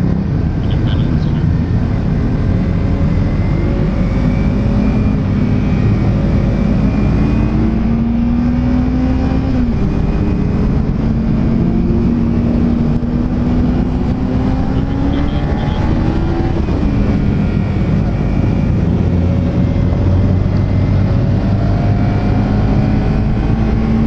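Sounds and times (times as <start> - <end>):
motorcycle engine accelerating: 0.0 - 24.0
wind noise: 0.0 - 24.0.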